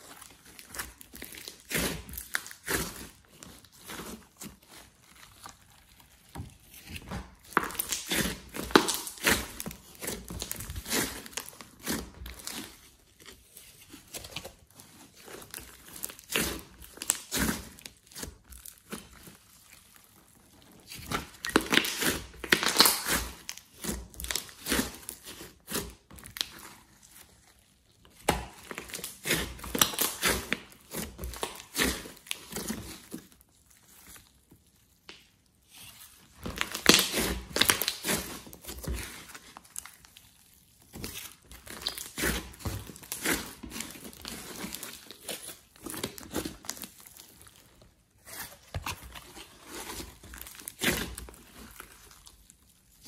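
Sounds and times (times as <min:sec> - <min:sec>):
hands kneading sticky slime: 0:00.0 - 0:53.0.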